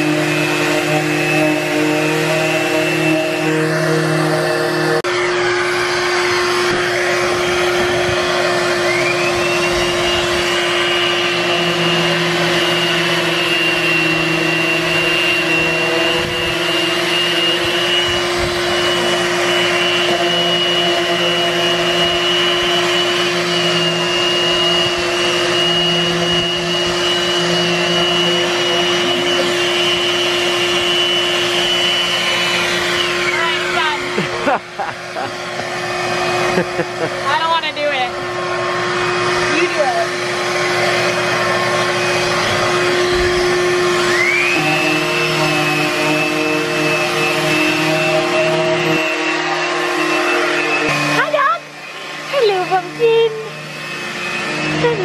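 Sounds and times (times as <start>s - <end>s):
orbital sander humming and whining: 0.0s - 55.0s.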